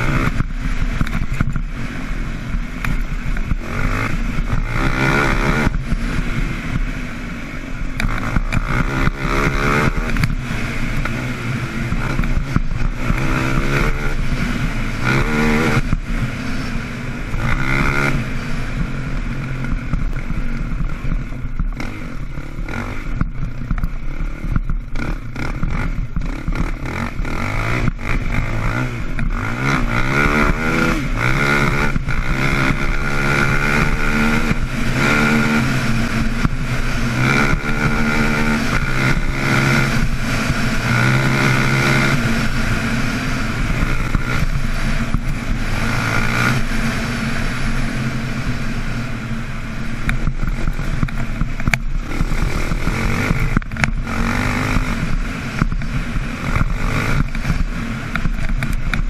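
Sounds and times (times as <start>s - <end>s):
quad engine revving: 0.0s - 1.9s, 2.8s - 7.1s, 7.9s - 59.0s.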